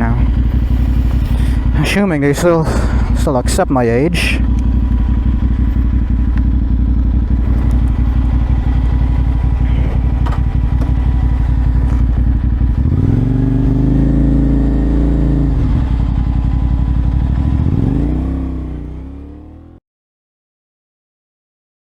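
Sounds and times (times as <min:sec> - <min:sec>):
motorcycle engine revving: 0:00.0 - 0:19.8.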